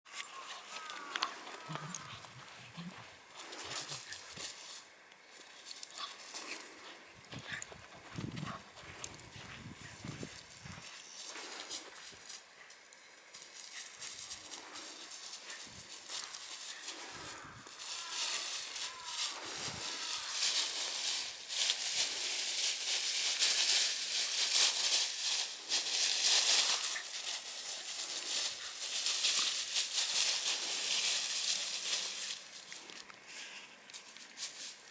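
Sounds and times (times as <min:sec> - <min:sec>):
dry leaves crunching and rustling: 0:00.1 - 0:06.9, 0:08.9 - 0:34.9.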